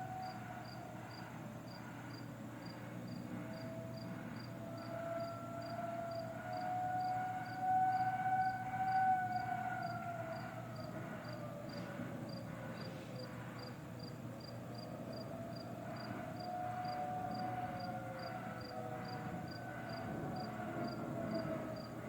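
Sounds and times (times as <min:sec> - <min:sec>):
crickets chirping: 0:00.0 - 0:22.0
outdoor warning sirens: 0:00.0 - 0:22.0.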